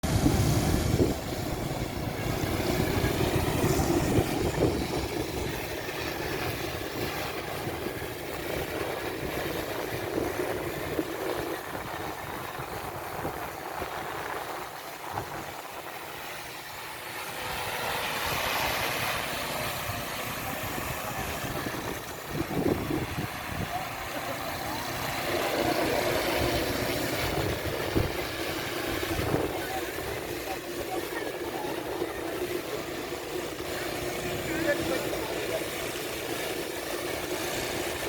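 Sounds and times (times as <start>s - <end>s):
motor rumble: 0.0s - 38.0s.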